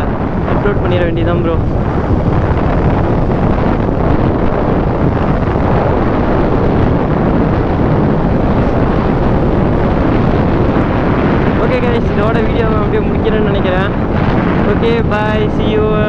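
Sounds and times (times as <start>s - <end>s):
motorcycle cruising: 0.0s - 16.0s
wind buffeting microphone: 0.0s - 16.0s.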